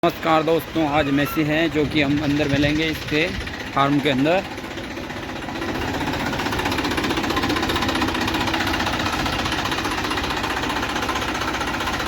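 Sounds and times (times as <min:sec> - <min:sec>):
tractor diesel engine clattering: 0:00.0 - 0:12.0.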